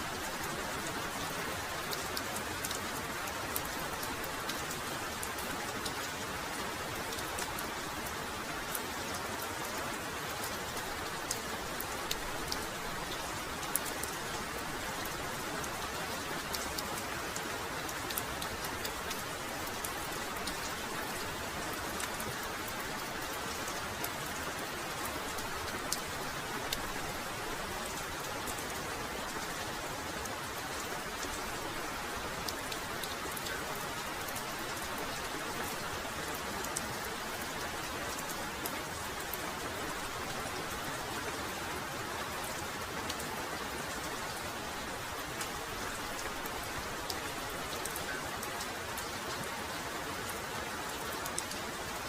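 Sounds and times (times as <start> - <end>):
heavy rain falling: 0.0 - 52.0
sharp ticks of raindrops: 0.0 - 52.0.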